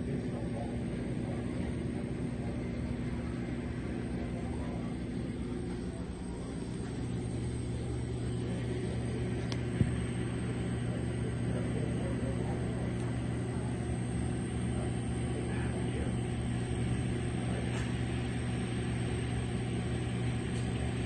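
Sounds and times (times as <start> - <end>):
car wash machinery rumbling: 0.0 - 21.0.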